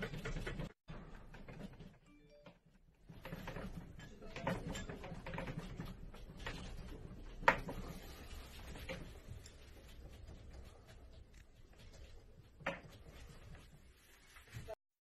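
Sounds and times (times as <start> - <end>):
household objects rattling and knocking: 0.0 - 14.6.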